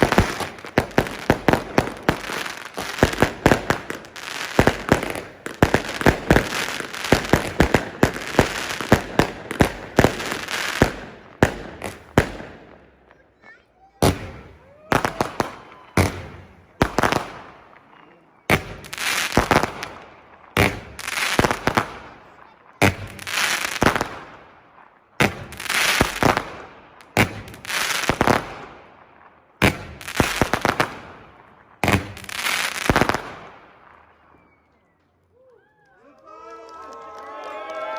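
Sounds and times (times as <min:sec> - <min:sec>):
fireworks bangs and crackling: 0:00.0 - 0:35.6.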